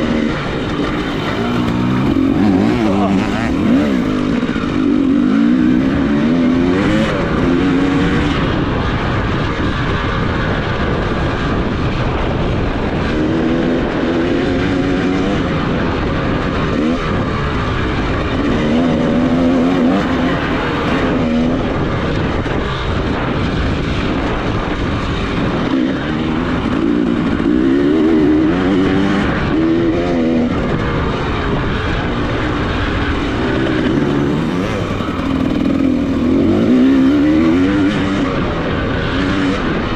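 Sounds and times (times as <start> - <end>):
off-road motorcycle engine revving: 0.0 - 39.9
steady rushing noise: 0.0 - 39.9.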